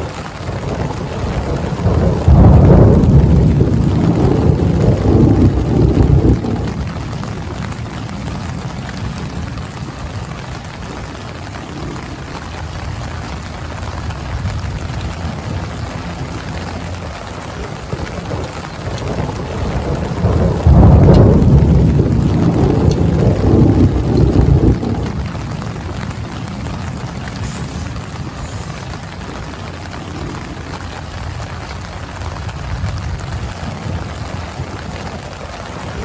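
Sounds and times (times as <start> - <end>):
deep rumble of thunder: 0.0 - 36.0
steady rain: 0.0 - 36.0.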